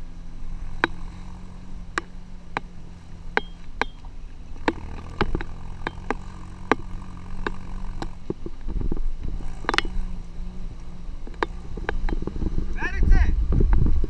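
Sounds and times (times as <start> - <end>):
suv engine running at low speed: 0.0 - 14.0
vehicle clanks and rattles: 0.0 - 14.0.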